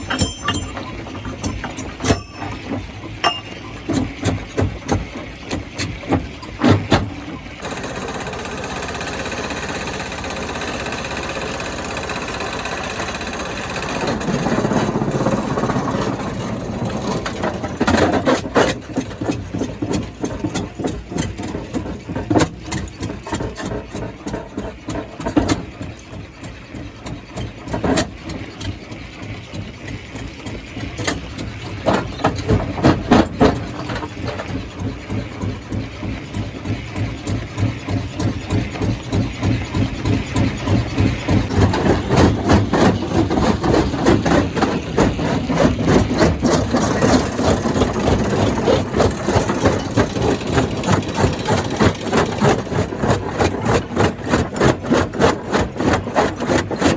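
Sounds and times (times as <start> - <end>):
stone crusher droning: 0.0 - 56.9.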